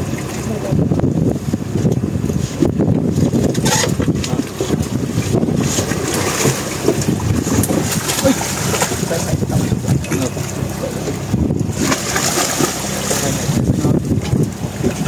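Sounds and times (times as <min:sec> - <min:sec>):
sea washing against boat: 0:00.0 - 0:15.0
water splashing at hull: 0:00.0 - 0:15.0
wind buffeting microphone: 0:00.0 - 0:15.0.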